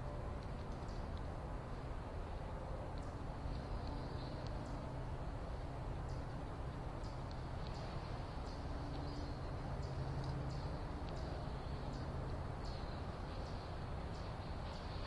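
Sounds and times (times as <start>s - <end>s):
steady low rumble: 0.0s - 15.0s
small birds chirping: 0.6s - 1.4s, 2.4s - 15.0s.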